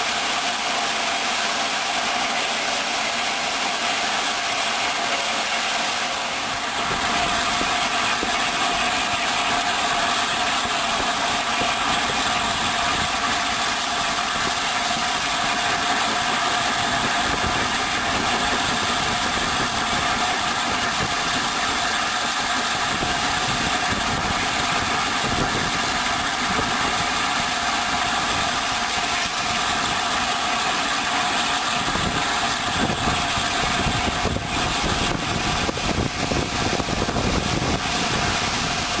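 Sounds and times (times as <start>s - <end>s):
steam train hiss: 0.0s - 39.0s.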